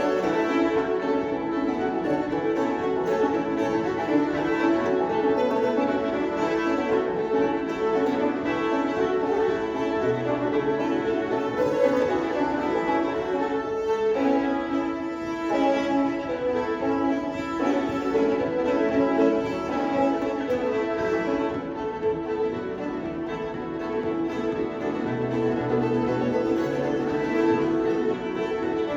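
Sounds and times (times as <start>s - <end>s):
banjo: 0.0s - 28.9s
fiddles playing: 0.0s - 28.9s.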